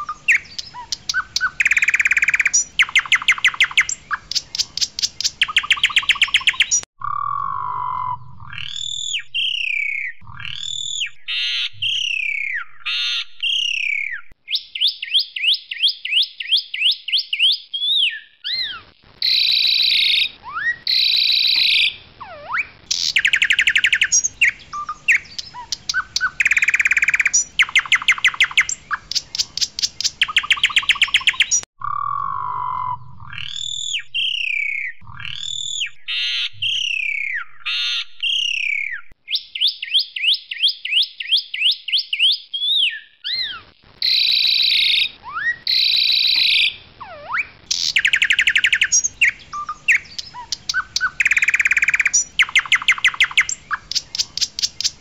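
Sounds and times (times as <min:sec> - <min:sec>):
bird singing trills and whistles: 0:00.0 - 0:55.0.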